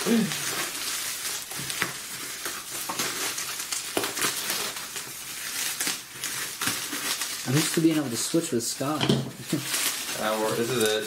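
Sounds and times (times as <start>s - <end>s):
bubble wrap crinkling and snapping: 0.0s - 11.0s
scissors cutting bubble wrap: 0.0s - 11.0s.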